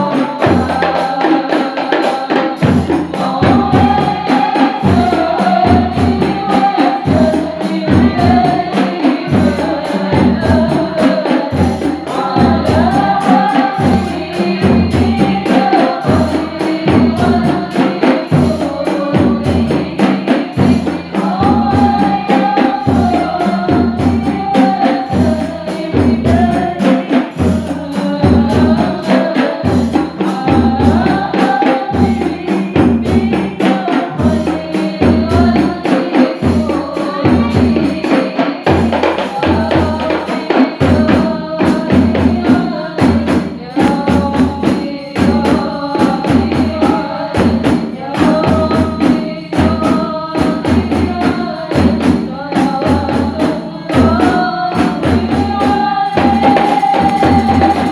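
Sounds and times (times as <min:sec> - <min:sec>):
jingling hand percussion: 0:00.0 - 0:57.9
person singing melody: 0:00.0 - 0:57.9
deep frame drum beat: 0:02.6 - 0:57.9.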